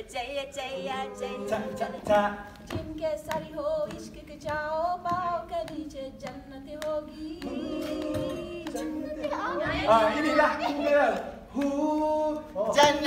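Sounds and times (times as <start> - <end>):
vocal ensemble singing in harmony: 0.0 - 13.0.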